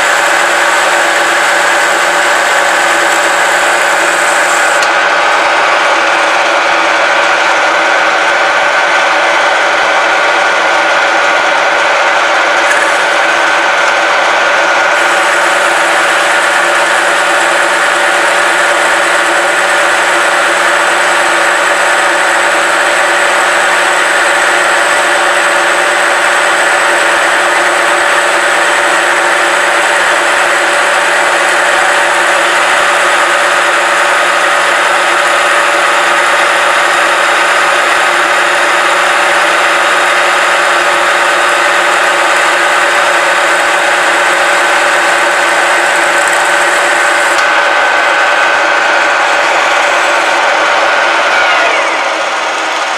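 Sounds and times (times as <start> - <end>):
cutting tool turning metal: 0.0 - 7.9, 10.6 - 52.9
metal lathe gear whine: 0.0 - 52.9.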